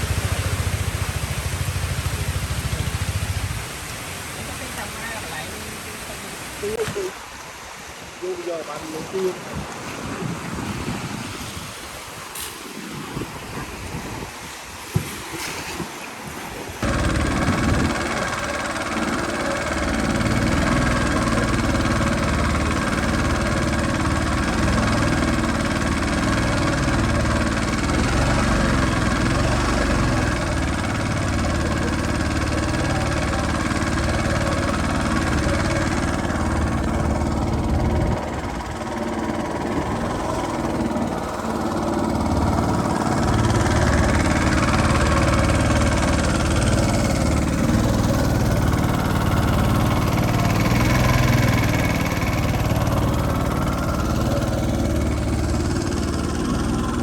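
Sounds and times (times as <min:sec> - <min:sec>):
engine running steadily: 0:00.0 - 0:15.6, 0:16.8 - 0:57.0.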